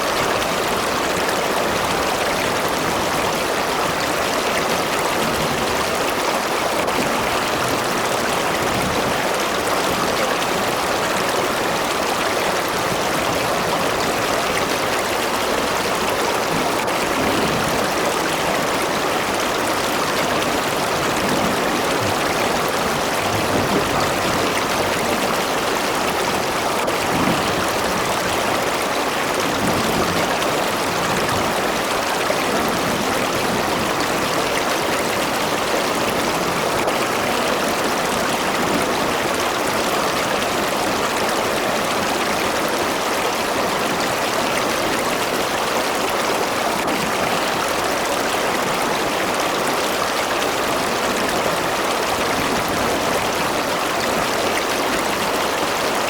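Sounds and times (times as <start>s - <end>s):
river water rushing over rocks: 0.0s - 56.0s.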